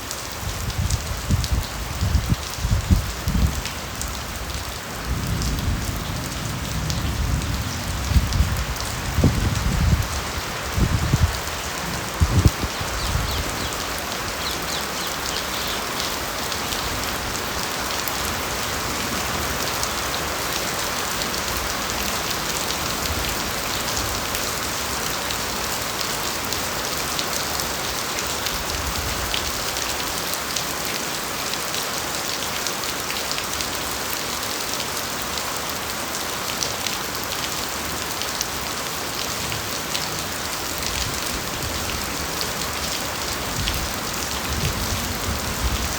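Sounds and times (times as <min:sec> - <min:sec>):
rain on foliage: 0:00.0 - 0:45.9.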